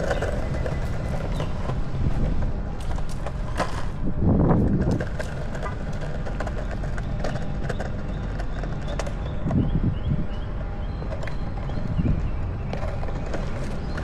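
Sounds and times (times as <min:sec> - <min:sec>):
longboard wheels rolling over pavers: 0:00.0 - 0:14.0.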